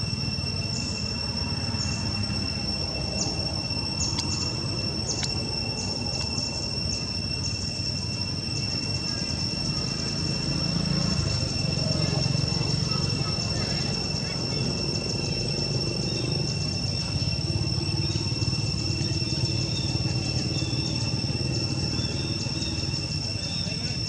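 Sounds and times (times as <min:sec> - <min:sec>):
insect chirps: 0:00.0 - 0:24.0
insects droning: 0:00.0 - 0:24.0.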